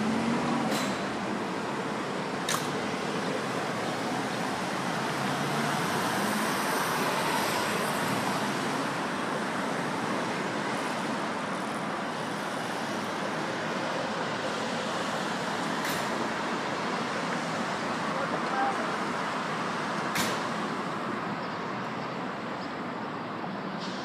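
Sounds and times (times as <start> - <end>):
road traffic hiss: 0.0 - 24.0.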